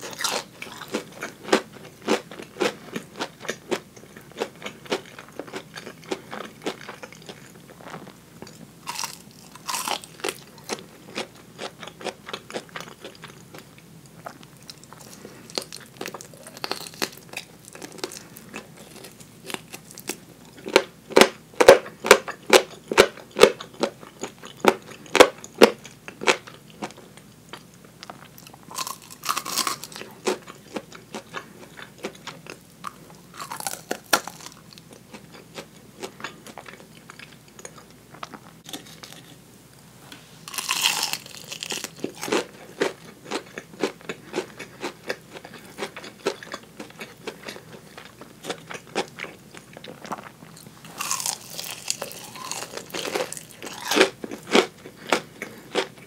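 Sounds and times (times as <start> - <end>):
chewing: 0.0 - 39.4, 40.5 - 56.0
crunching fried chicken: 0.0 - 39.4, 40.5 - 56.0.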